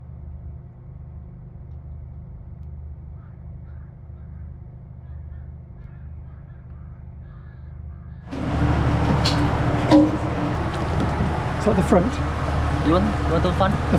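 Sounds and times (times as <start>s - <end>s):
muffled low hum: 0.0s - 13.9s.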